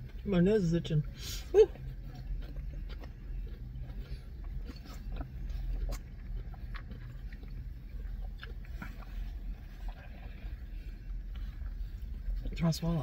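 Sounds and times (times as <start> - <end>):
low steady hum: 0.0 - 13.0
people chewing crunchy food: 0.0 - 13.0.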